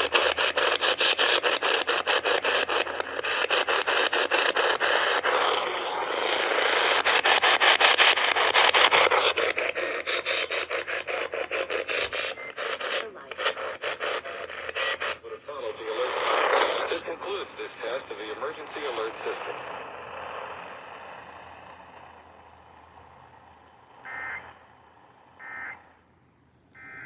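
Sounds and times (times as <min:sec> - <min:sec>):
rapid regular clicking: 0:00.0 - 0:15.2, 0:15.9 - 0:24.5
radio static hiss: 0:00.0 - 0:26.0.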